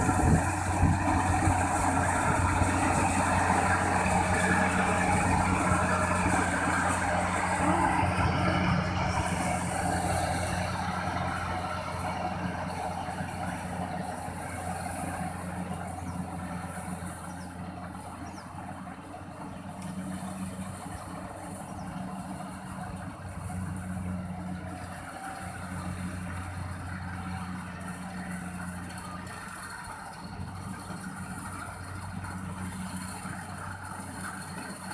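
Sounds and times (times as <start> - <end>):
diesel engine humming: 0.0 - 34.9.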